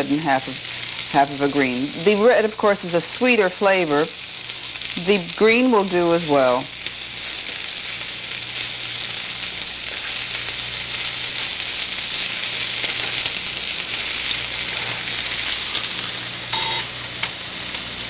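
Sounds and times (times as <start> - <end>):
vegetables sizzling in a skillet: 0.0 - 18.0.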